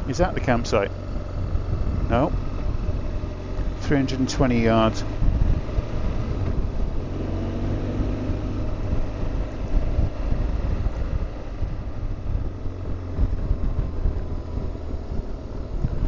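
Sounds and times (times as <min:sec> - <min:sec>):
motorcycle engine running: 0:00.0 - 0:16.0
wind rushing over microphone: 0:00.0 - 0:16.0.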